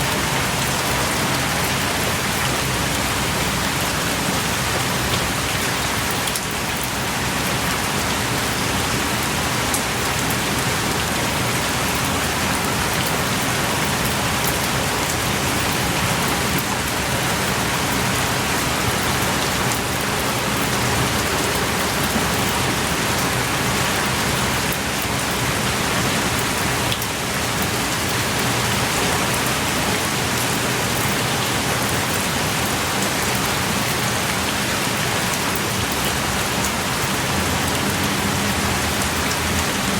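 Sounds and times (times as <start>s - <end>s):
heavy rain pouring: 0.0s - 39.9s
raindrops ticking: 0.0s - 39.9s.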